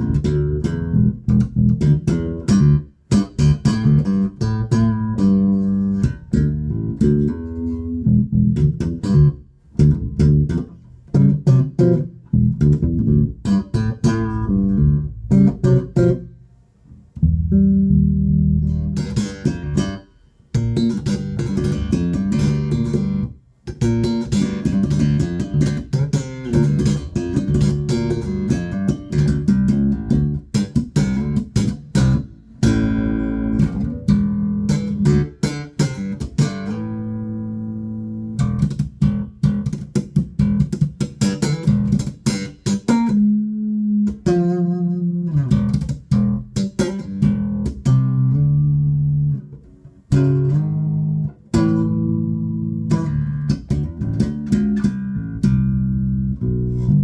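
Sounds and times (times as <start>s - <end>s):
solo bass guitar playing: 0.0s - 57.0s.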